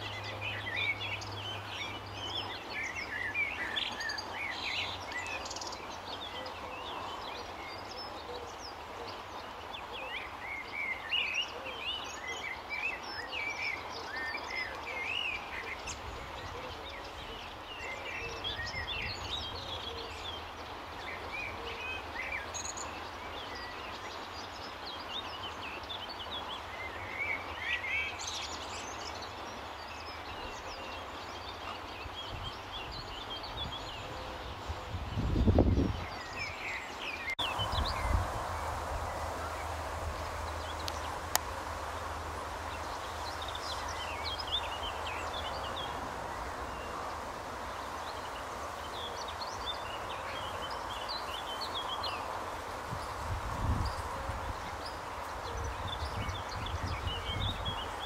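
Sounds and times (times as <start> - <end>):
outdoor background hiss: 0.0 - 58.0
small birds chirping: 0.0 - 58.0.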